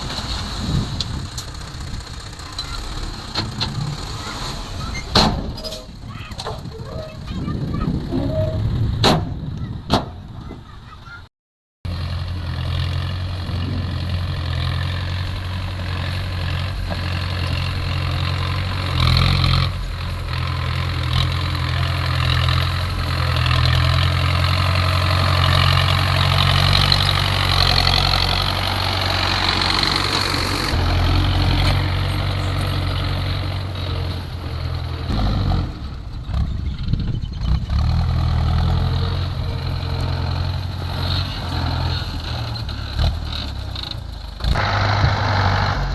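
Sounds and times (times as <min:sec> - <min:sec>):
heavy machinery diesel engine running: 0:00.0 - 0:09.7, 0:11.9 - 0:45.9.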